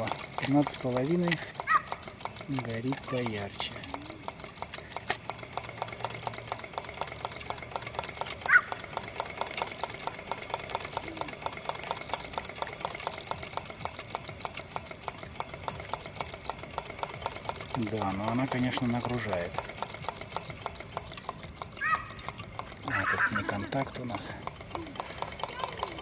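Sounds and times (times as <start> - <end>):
engine mechanism rapid clicking: 0.0 - 26.0.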